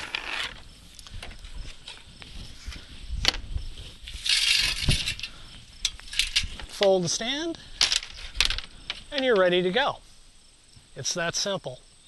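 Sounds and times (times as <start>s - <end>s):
scraping rustle: 0.0s - 10.2s.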